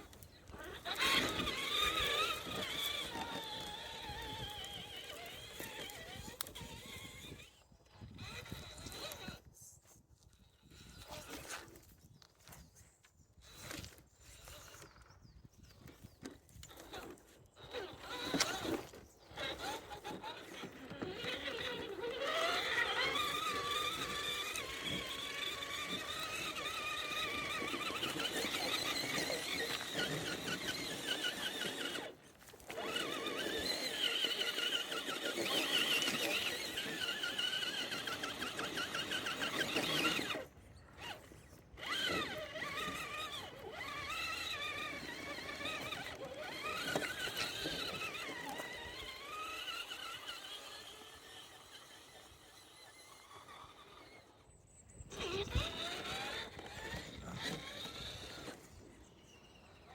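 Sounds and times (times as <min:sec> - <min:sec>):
toy truck electric motor whining: 0:00.0 - 0:59.9.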